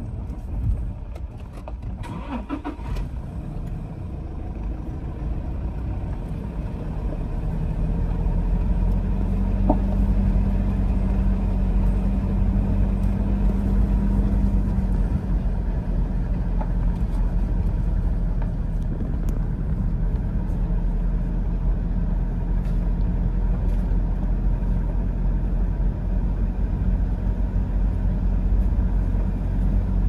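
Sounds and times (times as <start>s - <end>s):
vehicle engine running: 0.0s - 30.0s
wheels rumbling: 0.0s - 30.0s.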